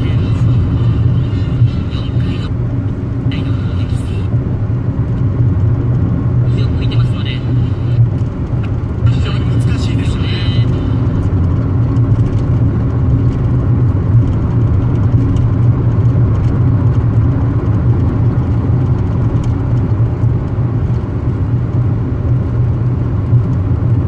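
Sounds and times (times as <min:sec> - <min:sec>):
car cabin drone of tyres and engine: 0:00.0 - 0:24.0.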